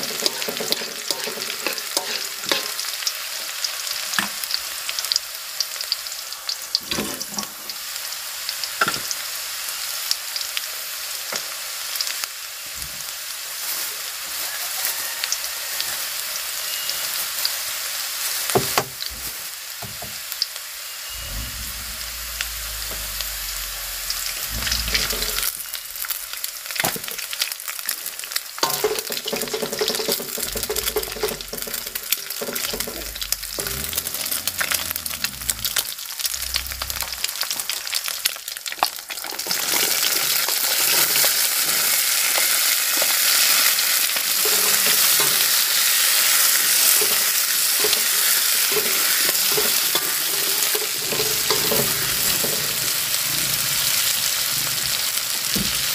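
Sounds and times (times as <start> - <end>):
oil sizzling in a wok: 0.0 - 55.9.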